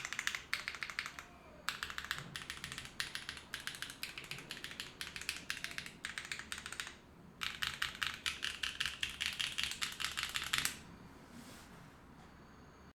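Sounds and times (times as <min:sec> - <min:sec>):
fast mechanical keyboard typing: 0:00.0 - 0:10.8.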